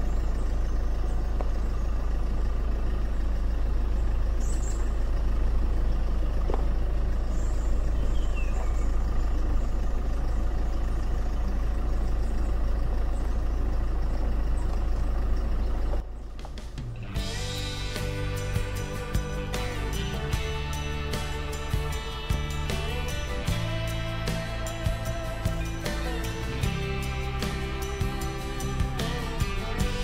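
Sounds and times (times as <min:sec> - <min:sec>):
road noise: 0:00.0 - 0:30.0
vehicle engine rumble: 0:00.0 - 0:30.0.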